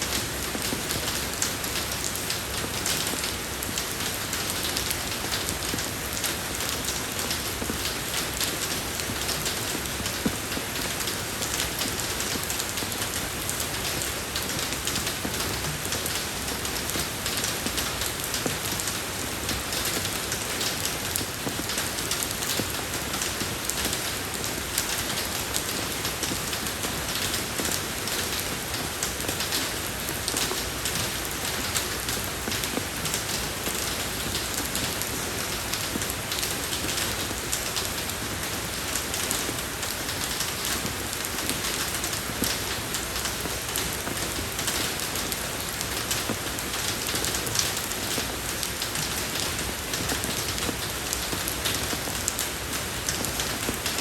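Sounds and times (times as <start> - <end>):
rain falling on a road: 0.0 - 54.0.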